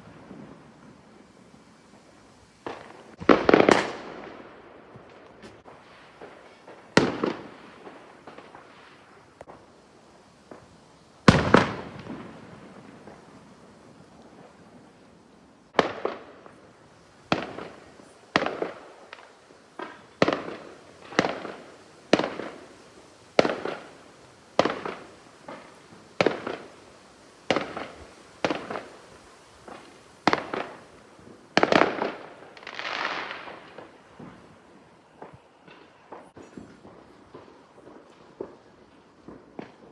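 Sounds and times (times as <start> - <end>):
crackling hiss: 0.0 - 39.9
fireworks bursting with sharp bangs: 0.0 - 39.9.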